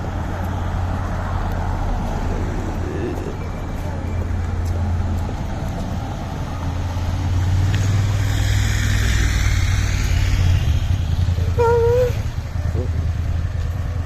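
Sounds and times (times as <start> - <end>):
car passing by: 0.0 - 14.0
tyre and road noise: 0.0 - 14.0.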